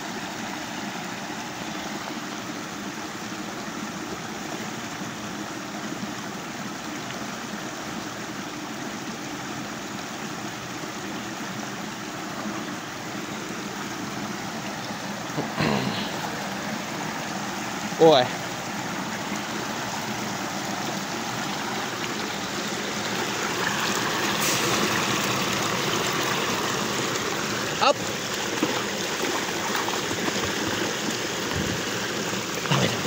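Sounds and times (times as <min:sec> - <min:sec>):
creek water flowing: 0:00.0 - 0:33.0.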